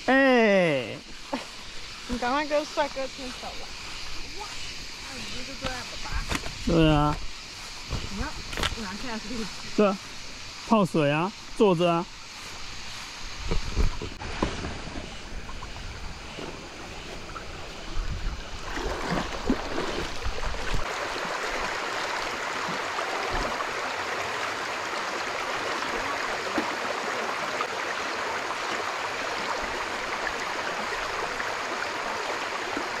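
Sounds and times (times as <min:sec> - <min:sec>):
stream water running: 0:00.0 - 0:33.0.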